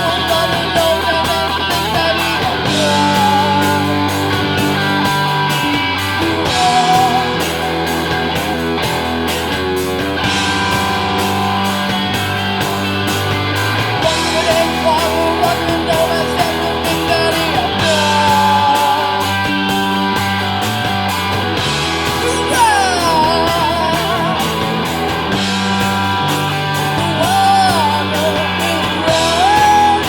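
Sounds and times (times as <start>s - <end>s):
drum beat: 0.0s - 30.0s
heavy bass guitar: 0.0s - 30.0s
wavering lead electric guitar: 0.0s - 30.0s.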